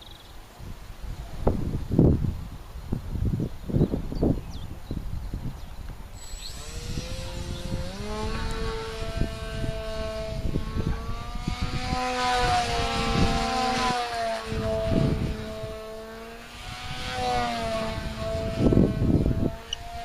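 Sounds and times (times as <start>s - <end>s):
wind buffeting microphone: 0.0s - 20.0s
model plane propeller buzzing: 1.0s - 20.0s.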